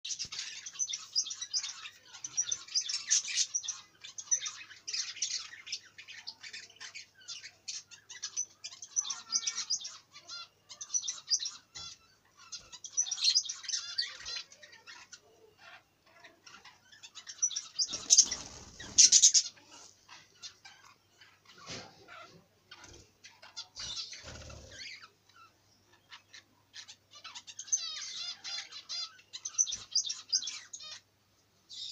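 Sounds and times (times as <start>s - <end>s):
budgerigars chattering: 0.1s - 31.0s.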